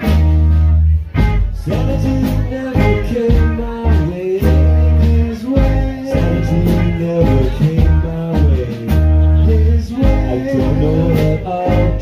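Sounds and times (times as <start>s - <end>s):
electric guitar: 0.0s - 12.0s
sustained bass notes: 0.0s - 12.0s.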